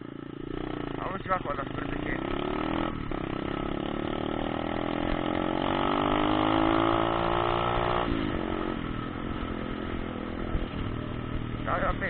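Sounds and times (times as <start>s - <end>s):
motorbike engine revving: 0.3s - 12.0s.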